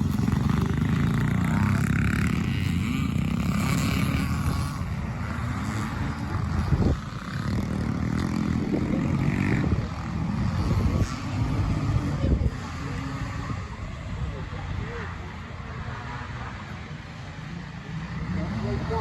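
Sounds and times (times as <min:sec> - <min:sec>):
motorcycles racing and revving: 0:00.0 - 0:19.0.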